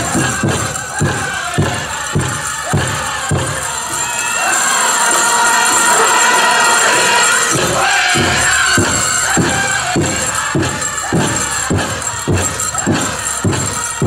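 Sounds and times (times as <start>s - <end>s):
big drum steady beat: 0.0s - 5.1s, 6.0s - 14.0s
group singing: 0.0s - 14.0s.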